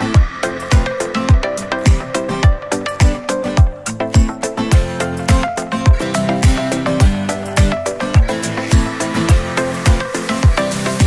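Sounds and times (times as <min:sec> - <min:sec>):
deep kick drum: 0:00.1 - 0:10.6.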